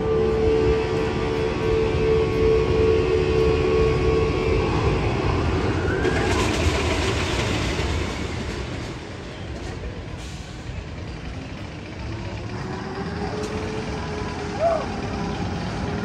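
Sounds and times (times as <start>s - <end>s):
roller coaster rumbling on track: 0.0s - 16.0s.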